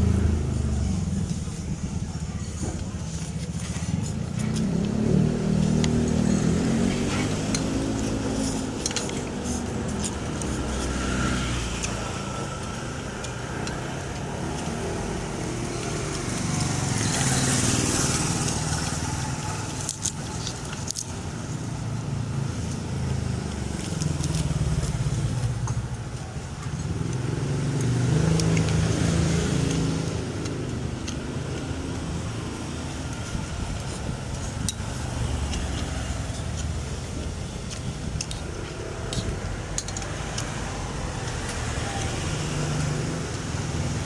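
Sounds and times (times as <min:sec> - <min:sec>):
vehicle engines running: 0:00.0 - 0:44.0
vehicle passing close: 0:00.0 - 0:44.0.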